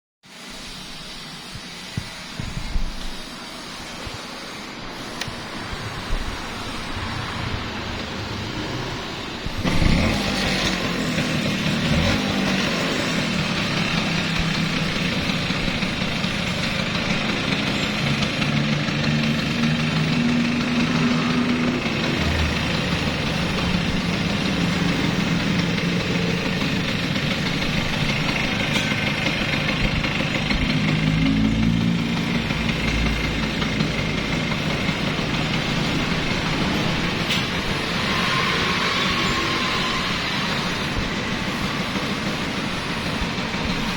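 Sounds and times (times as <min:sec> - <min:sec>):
scooter engine idling: 0:02.6 - 0:43.9.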